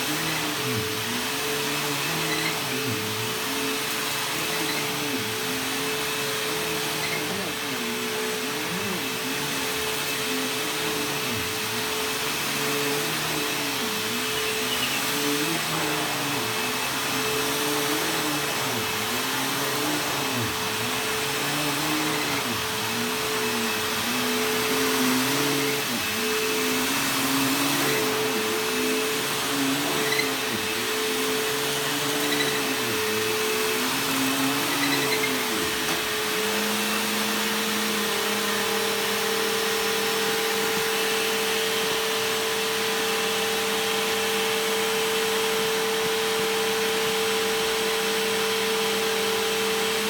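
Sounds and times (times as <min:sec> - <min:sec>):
vacuum cleaner running on carpet: 0:00.0 - 0:50.0.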